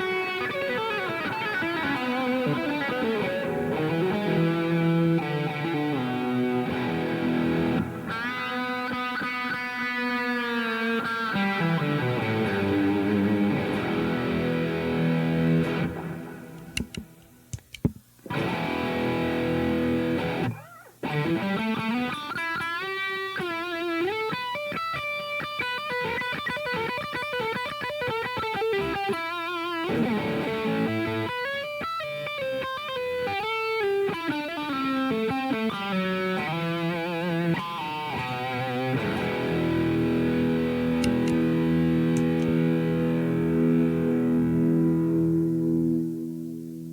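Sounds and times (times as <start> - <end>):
distorted electric guitar: 0.0 - 17.2, 18.2 - 46.9.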